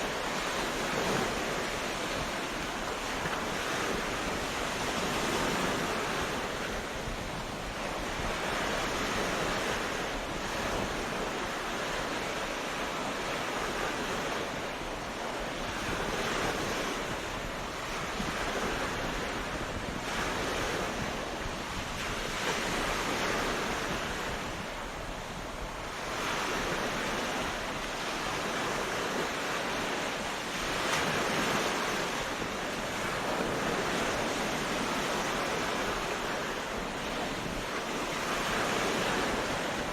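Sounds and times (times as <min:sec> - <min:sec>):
ocean waves breaking on beach: 0:00.0 - 0:39.9
wind noise: 0:00.0 - 0:39.9.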